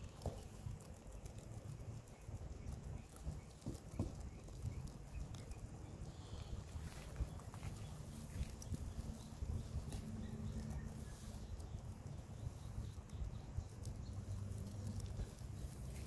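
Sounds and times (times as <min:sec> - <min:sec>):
guinea pigs chewing: 0:00.0 - 0:16.0.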